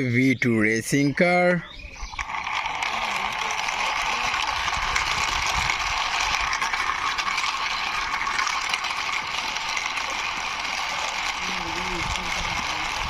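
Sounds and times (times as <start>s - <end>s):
toy car wheels rattling: 0.8s - 13.0s.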